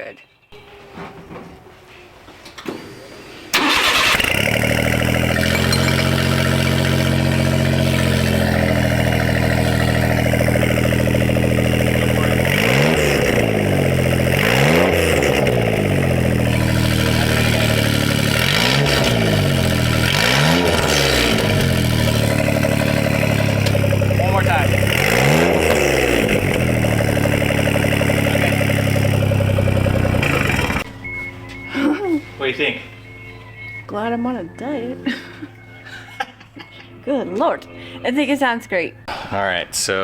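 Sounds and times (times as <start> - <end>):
truck engine idling and revving: 3.5 - 39.1.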